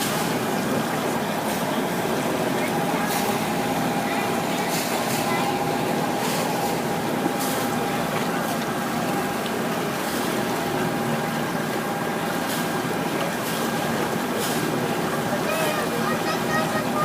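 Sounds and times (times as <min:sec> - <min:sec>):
boat engine humming: 0:00.0 - 0:17.0
water around hull: 0:00.0 - 0:17.0.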